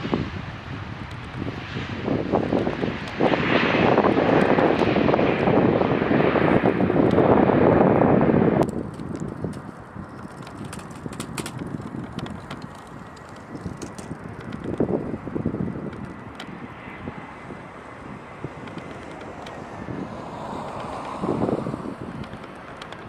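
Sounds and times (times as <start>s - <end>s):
distant jet airliner whine: 0.0s - 23.0s
wind buffeting microphone: 0.0s - 23.0s.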